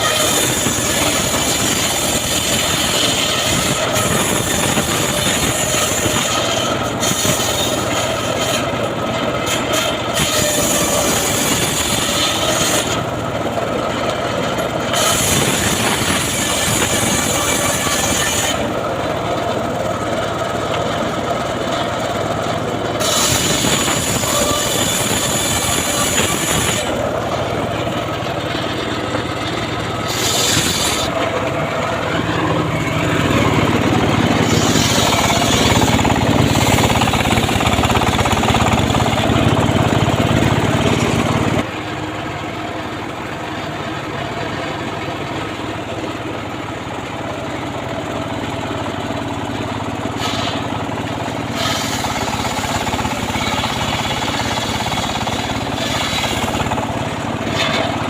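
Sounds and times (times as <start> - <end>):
circular saw sawing wood: 0.0 - 58.0.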